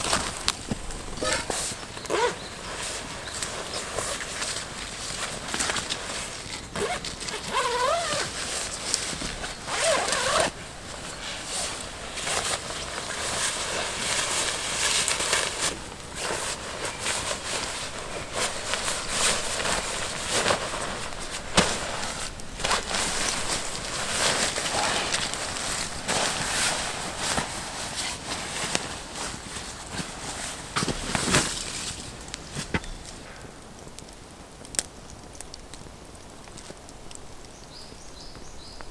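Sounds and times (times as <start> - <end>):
rustling and scraping: 0.0 - 33.5.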